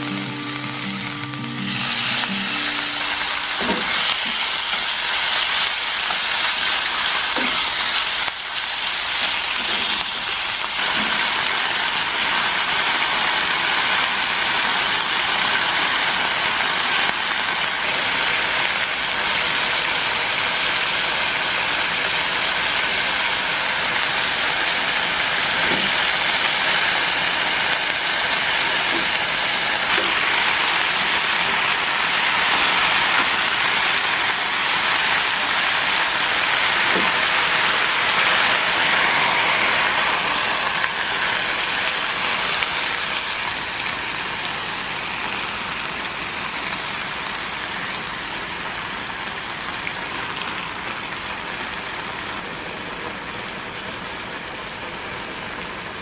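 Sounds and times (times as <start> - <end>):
meat sizzling in a pan: 0.0 - 52.6.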